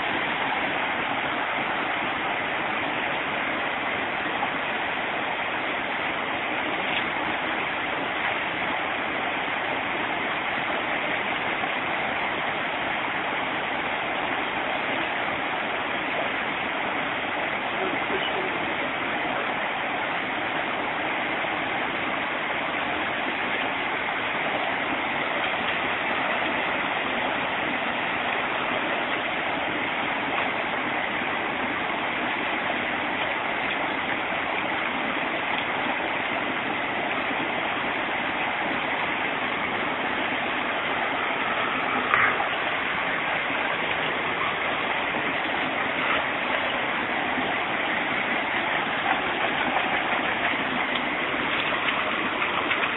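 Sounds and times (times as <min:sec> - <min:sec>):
stream rushing over stones: 0:00.0 - 0:52.9.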